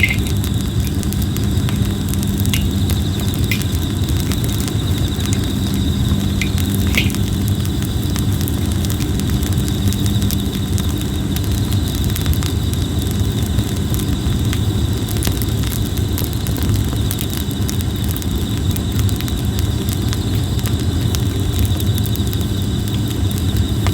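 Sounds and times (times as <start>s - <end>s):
campfire crackling and popping: 0.0s - 23.9s
insects trilling: 0.0s - 23.9s.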